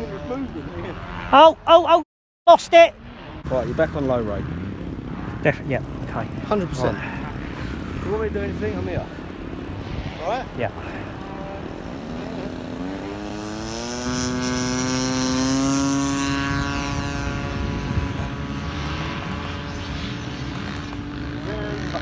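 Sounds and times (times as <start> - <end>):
model plane engine and propeller: 3.4 - 22.0.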